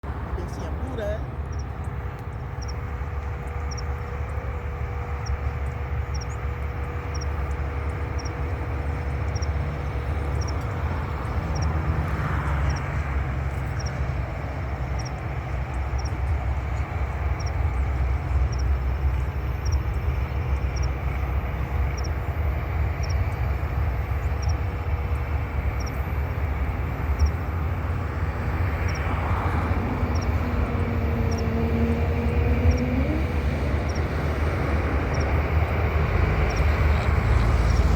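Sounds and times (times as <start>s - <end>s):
jet engines rumbling and whining: 0.0s - 37.9s.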